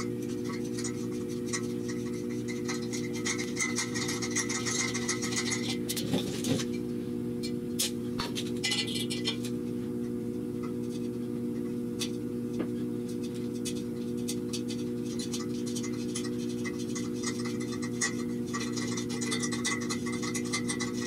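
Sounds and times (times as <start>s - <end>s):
steady drone of held tones: 0.0s - 21.0s.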